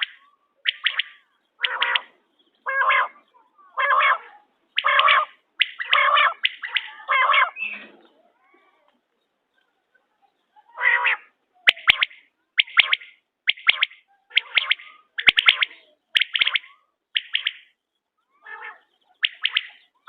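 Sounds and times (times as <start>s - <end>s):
quail calling: 0.0s - 8.2s, 10.6s - 17.7s, 18.3s - 20.0s.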